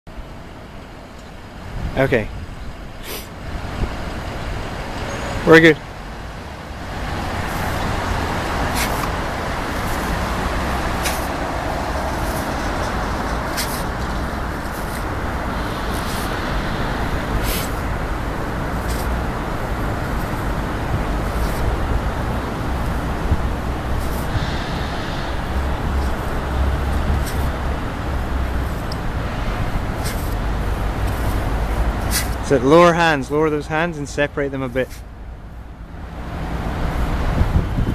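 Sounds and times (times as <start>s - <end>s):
traffic-like background rumble: 0.1s - 37.9s.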